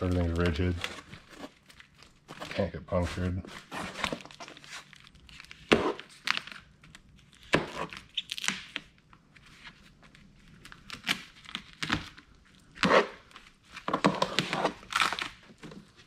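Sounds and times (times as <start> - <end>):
plastic crinkling and tearing: 0.0 - 16.0.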